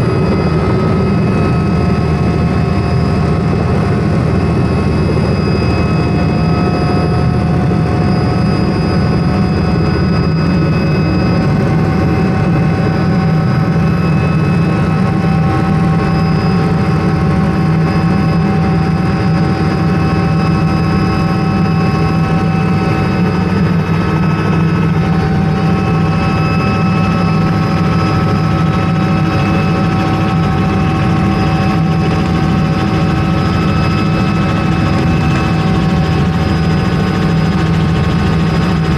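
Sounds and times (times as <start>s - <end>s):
helicopter engine and rotor drone: 0.0s - 38.9s
high turbine whine: 0.0s - 38.9s.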